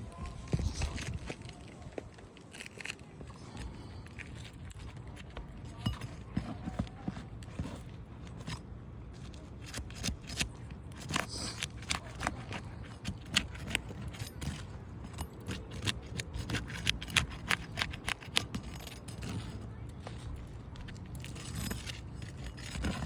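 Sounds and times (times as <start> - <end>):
metal tool clicking and scraping: 2.5 - 23.0.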